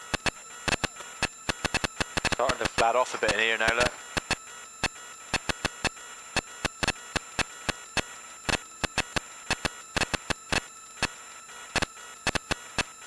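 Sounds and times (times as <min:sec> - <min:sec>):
thin high whine: 0:00.0 - 0:13.0
sharp clicks and crackle: 0:00.1 - 0:13.0.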